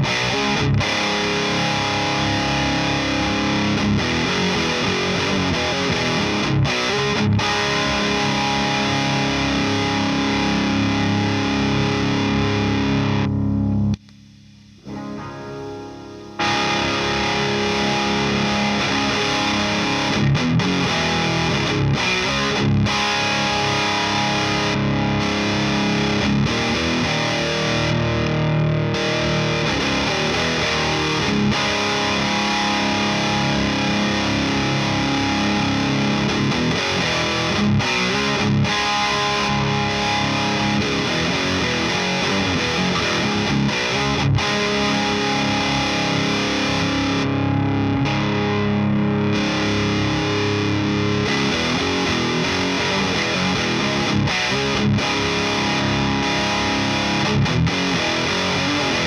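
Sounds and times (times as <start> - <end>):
distorted electric guitar chords: 0.0 - 59.0.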